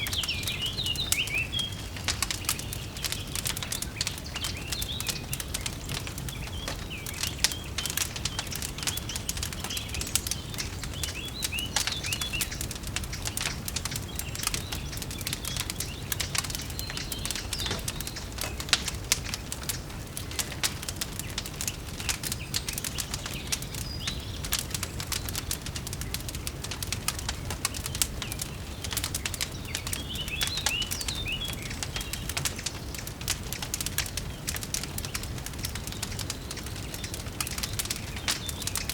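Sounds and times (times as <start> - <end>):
fire crackling and popping: 0.0 - 38.9
songbirds chirping: 0.0 - 38.9.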